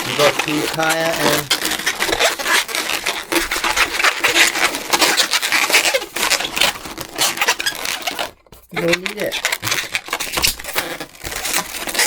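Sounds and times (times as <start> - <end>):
balloon rubbing and squeaking: 0.0 - 12.0.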